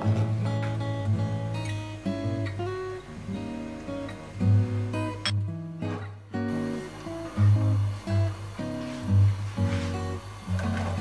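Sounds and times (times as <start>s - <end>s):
acoustic guitar strummed and plucked: 0.0s - 11.0s.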